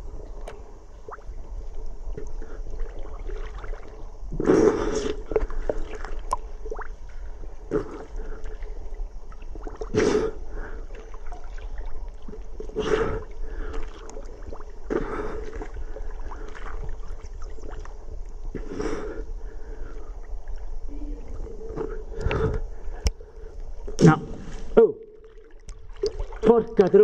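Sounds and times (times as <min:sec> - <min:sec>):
river water sloshing against camera: 0:00.0 - 0:27.0.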